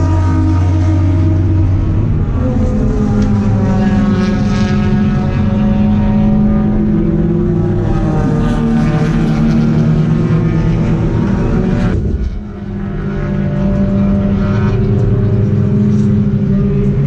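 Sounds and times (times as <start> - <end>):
race car engine revving high: 0.0 - 17.0.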